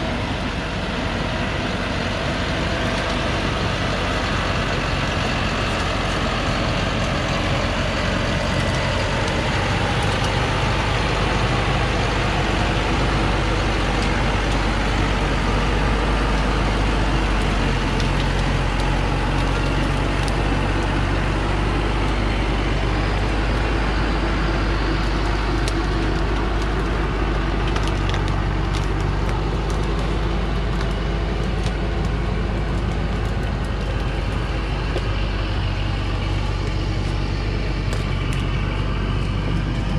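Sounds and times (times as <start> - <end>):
truck diesel engine under load: 0.0 - 39.9
sharp crackles: 0.1 - 39.9.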